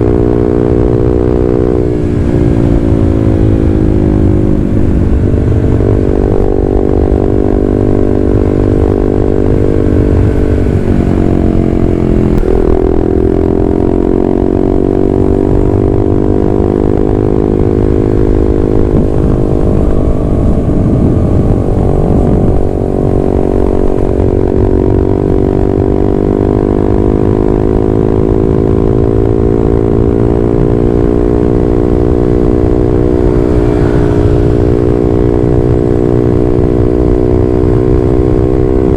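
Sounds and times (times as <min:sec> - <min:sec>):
motorcycle exhaust while riding: 0:00.0 - 0:38.9
wind rumbling on microphone: 0:00.0 - 0:38.9.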